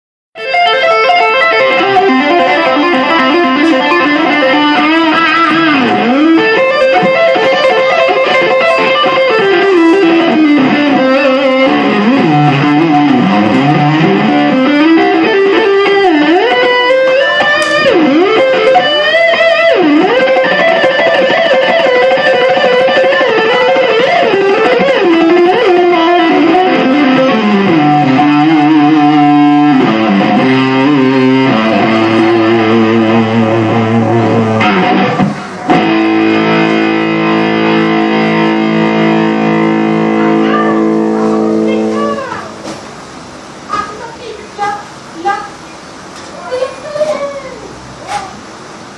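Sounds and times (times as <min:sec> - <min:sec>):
electric guitar lead line: 0:00.4 - 0:48.9.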